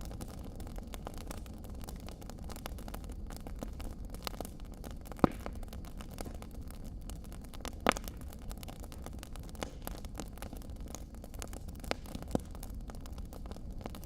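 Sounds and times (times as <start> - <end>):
loud fire pops: 0.0 - 14.0
wood fire crackling: 0.0 - 14.0.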